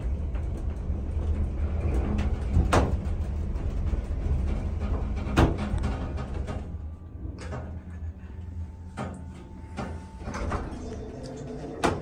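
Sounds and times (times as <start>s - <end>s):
elevator hum: 0.0s - 12.0s.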